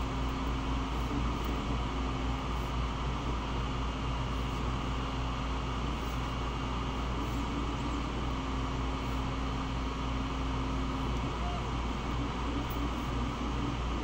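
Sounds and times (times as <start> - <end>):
constant low hum: 0.0 - 14.0
cooling fans whirring: 0.0 - 14.0.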